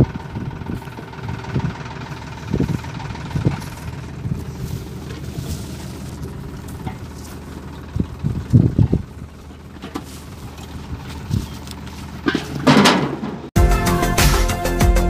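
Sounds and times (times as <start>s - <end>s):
tractor engine running: 0.0s - 14.4s.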